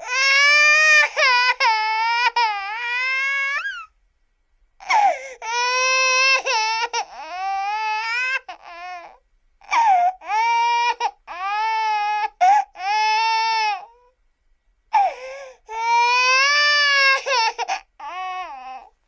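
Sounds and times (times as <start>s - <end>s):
baby crying: 0.0s - 3.9s, 4.8s - 14.1s, 14.9s - 19.0s.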